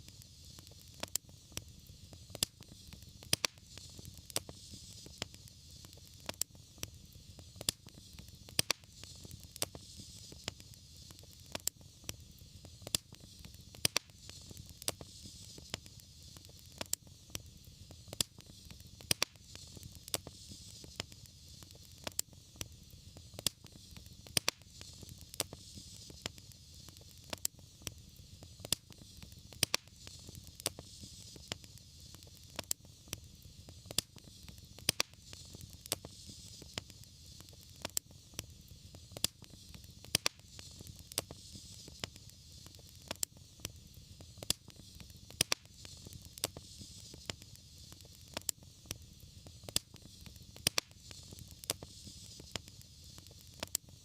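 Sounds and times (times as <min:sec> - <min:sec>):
low rumble and hiss of flames: 0:00.0 - 0:54.0
wood fire crackling: 0:00.0 - 0:54.0.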